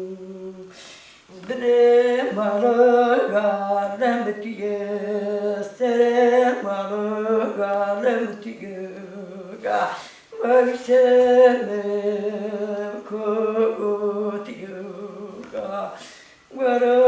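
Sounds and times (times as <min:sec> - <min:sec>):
woman singing a lament: 0:00.0 - 0:17.0.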